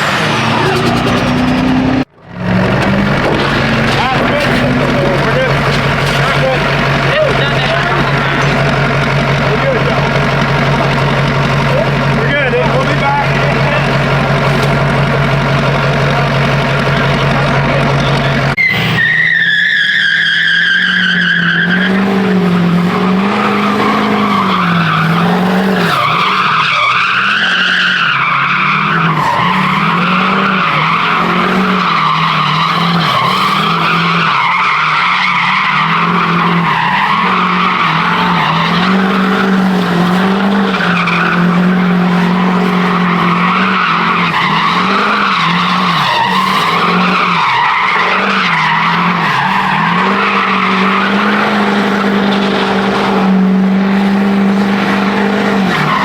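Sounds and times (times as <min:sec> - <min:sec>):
truck engine at high revs: 0:00.0 - 0:56.0
tyres squealing: 0:00.0 - 0:56.0.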